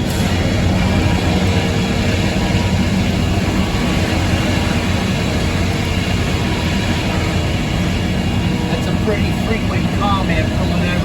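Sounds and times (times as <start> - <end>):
sawmill machine drone: 0.0 - 11.0.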